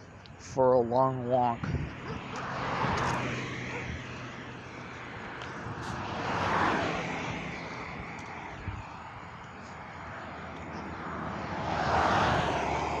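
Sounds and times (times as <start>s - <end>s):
passing vehicle engine and tyres: 0.0s - 13.0s.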